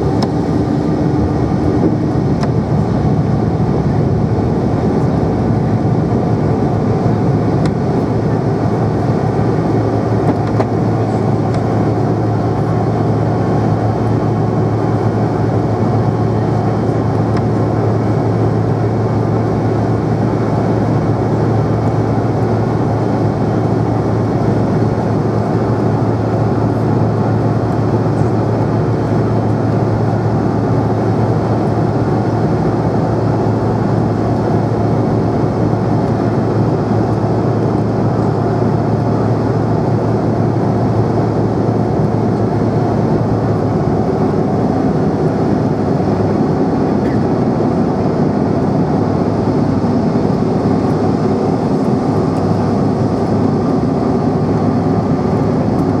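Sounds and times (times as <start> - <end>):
jet cabin roar: 0.0 - 56.0.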